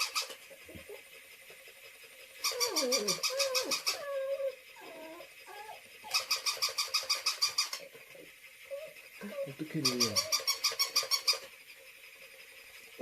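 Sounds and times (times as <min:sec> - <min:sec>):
electronic toy dog buzzy clicking: 0:00.0 - 0:13.0.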